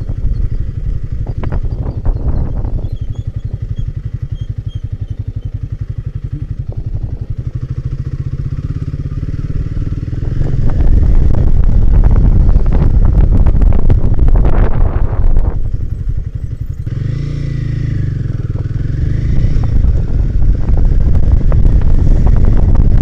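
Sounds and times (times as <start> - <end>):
motorcycle engine pulsing: 0.0 - 23.0.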